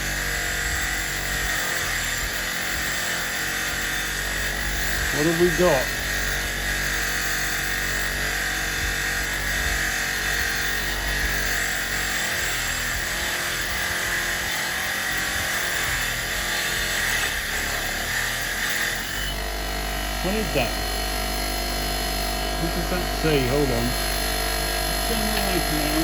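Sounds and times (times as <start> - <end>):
metal grinding: 0.0 - 26.0
power tool motor running: 0.0 - 26.0.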